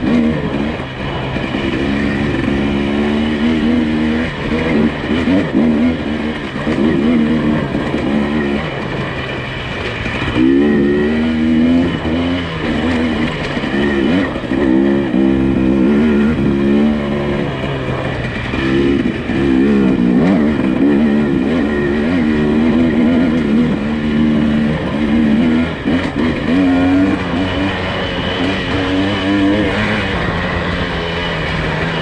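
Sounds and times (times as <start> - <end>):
suv engine revving: 0.0 - 32.0.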